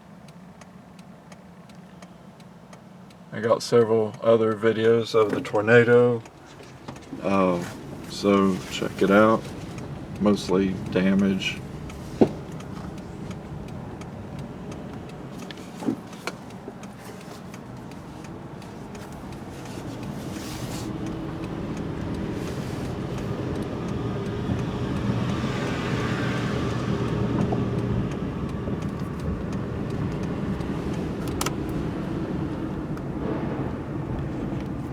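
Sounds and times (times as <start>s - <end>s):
car engine running: 0.0s - 34.9s
road noise: 0.0s - 34.9s
faint clicks: 0.1s - 33.1s.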